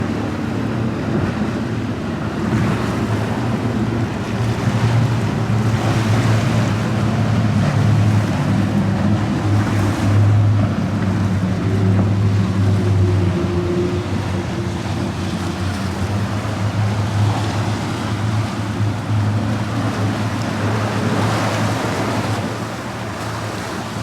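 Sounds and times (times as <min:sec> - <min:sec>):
motorboat engines droning: 0:00.0 - 0:24.0
waves washing: 0:00.0 - 0:24.0.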